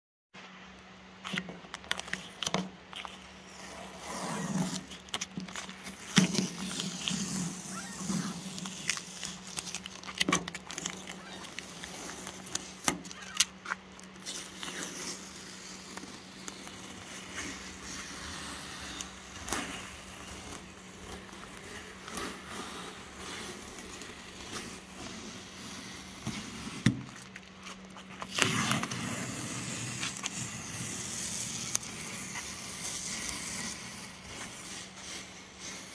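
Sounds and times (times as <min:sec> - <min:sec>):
masking tape peeling off metal: 0:01.3 - 0:35.9.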